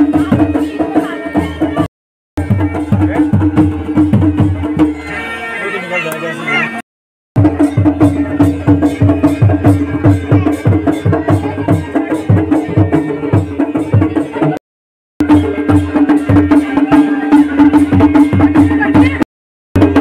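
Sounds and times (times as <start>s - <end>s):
drums beating fast: 0.0s - 5.6s, 7.4s - 14.6s, 15.2s - 20.0s.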